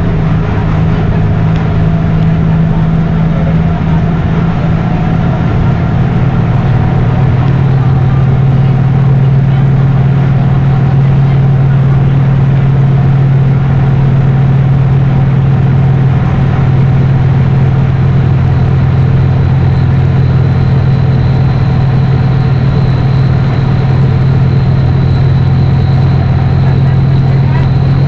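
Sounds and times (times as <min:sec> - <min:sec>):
bus diesel engine droning: 0:00.0 - 0:28.0
faint high whine: 0:00.0 - 0:28.0.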